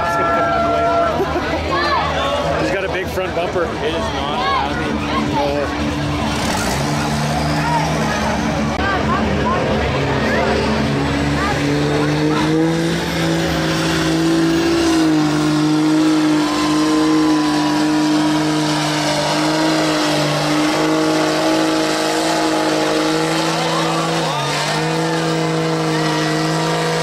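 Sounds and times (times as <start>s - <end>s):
truck engine at high revs: 0.0s - 27.0s.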